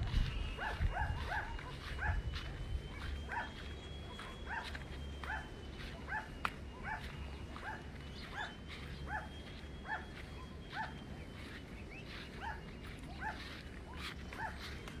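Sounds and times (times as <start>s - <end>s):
dog barking: 0.6s - 2.3s, 2.9s - 11.0s, 12.4s - 15.0s.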